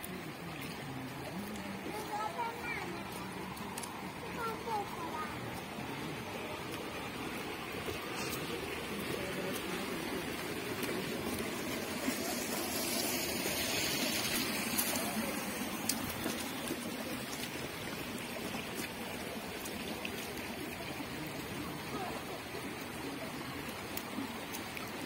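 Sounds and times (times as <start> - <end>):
water trickling in a ditch: 0.0 - 25.0.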